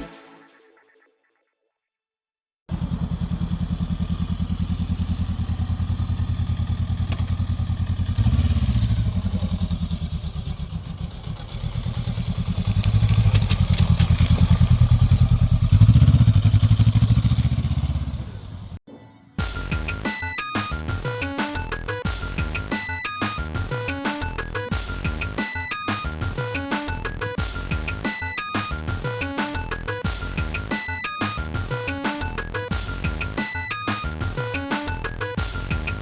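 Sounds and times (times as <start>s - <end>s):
motorcycle engine idling and revving: 2.7s - 18.8s, 21.8s - 28.1s, 28.7s - 30.8s, 31.4s - 36.0s.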